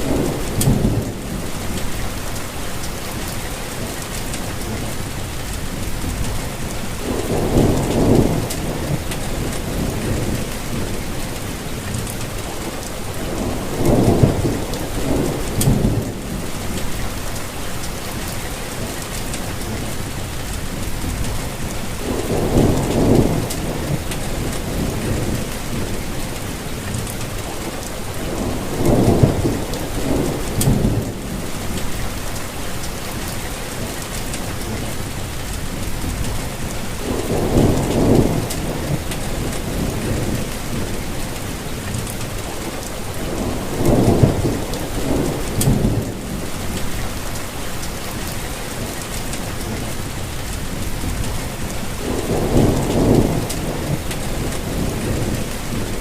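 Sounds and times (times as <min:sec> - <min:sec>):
thunder rumbling: 0:00.0 - 0:03.8, 0:04.5 - 0:18.3, 0:19.5 - 0:56.0
rain falling: 0:00.0 - 0:56.0.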